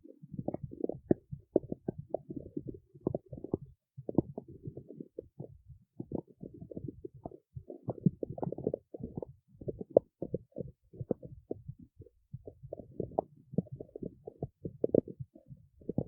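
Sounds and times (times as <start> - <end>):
stomach growling and gurgling: 0.0 - 16.0.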